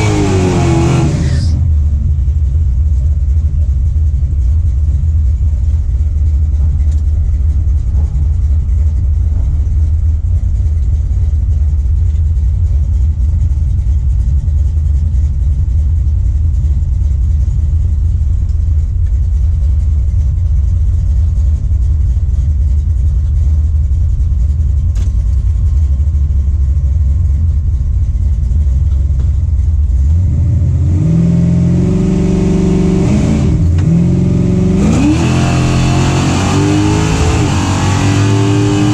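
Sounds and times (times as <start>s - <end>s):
truck engine idling and revving: 0.0s - 38.9s.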